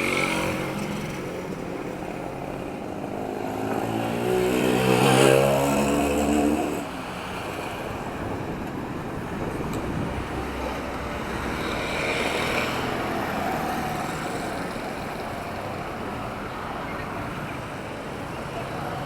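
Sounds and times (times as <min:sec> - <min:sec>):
rumble of passing vehicles: 0:00.0 - 0:19.0.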